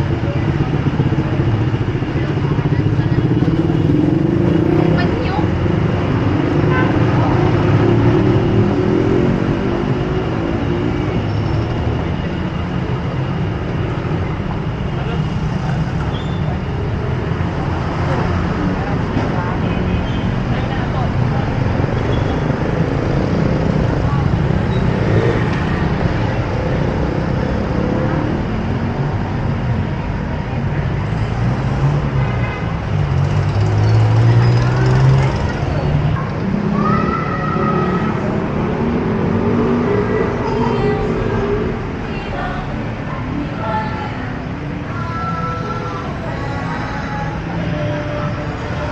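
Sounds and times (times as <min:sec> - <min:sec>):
street traffic: 0:00.0 - 0:48.9
vehicle engine humming: 0:00.0 - 0:48.9.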